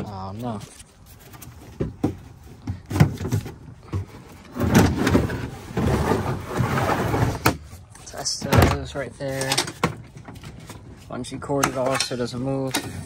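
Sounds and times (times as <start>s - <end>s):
clattering and rustling: 0.0s - 13.0s.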